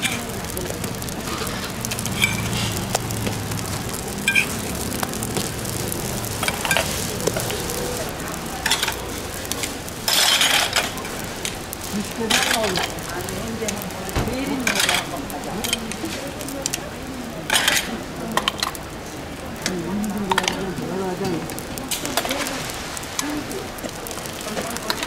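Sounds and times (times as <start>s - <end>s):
pancakes sizzling on a griddle: 0.0s - 25.0s.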